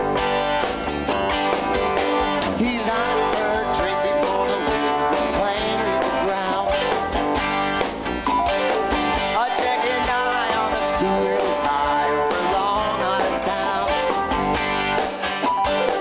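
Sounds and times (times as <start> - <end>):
bass guitar: 0.0 - 16.0
drums: 0.0 - 16.0
lead guitar with bending notes: 0.0 - 16.0.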